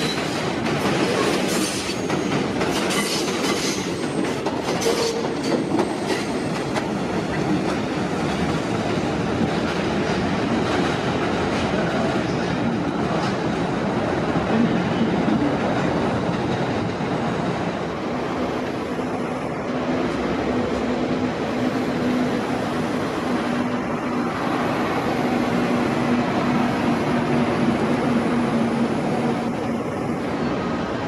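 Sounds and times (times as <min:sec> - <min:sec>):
train wheels running on rails: 0:00.0 - 0:31.0.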